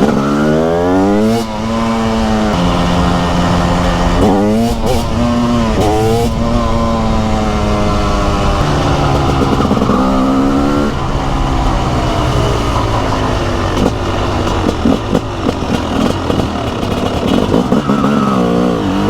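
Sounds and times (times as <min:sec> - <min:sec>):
motorcycle engine revving: 0:00.0 - 0:19.0
wind noise: 0:00.0 - 0:19.0.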